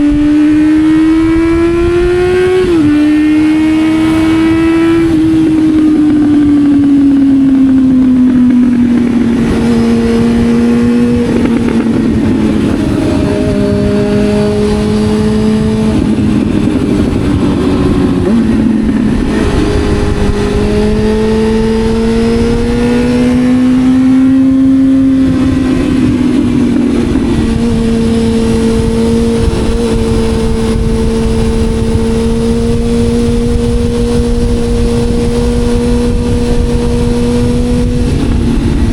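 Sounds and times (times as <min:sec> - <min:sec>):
motorcycle engine revving: 0:00.0 - 0:38.9
wind rushing: 0:00.0 - 0:38.9.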